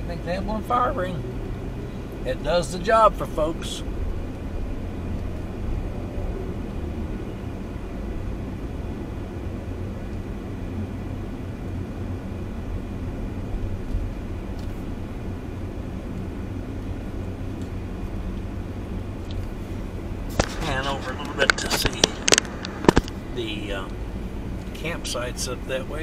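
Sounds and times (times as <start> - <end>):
faint steady hum: 0.0 - 26.0
vehicle engine and tyres rumbling: 0.0 - 26.0.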